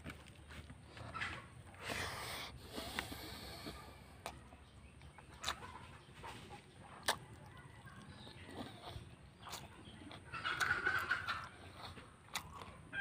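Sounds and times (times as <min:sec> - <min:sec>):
faint rural background noise: 0:00.0 - 0:13.0
person chewing with mouth smacks: 0:00.0 - 0:13.0.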